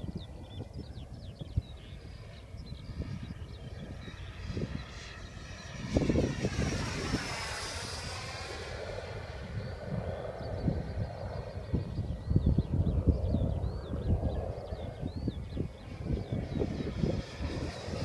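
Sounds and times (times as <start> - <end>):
electric ducted fan whining: 0.0 - 18.0
wind buffeting microphone: 0.0 - 18.0.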